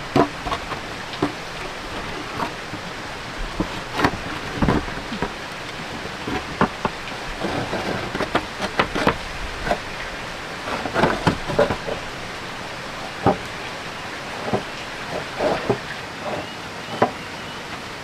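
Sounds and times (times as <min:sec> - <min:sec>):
sharp taps and knocks: 0:00.0 - 0:17.2
steady rain: 0:00.0 - 0:18.0.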